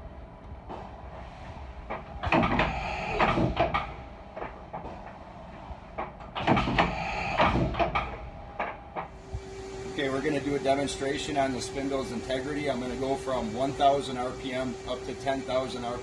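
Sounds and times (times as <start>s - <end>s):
steady machine hum: 0.0s - 16.0s
rushing air hiss: 1.0s - 4.2s, 5.4s - 8.3s, 9.1s - 16.0s.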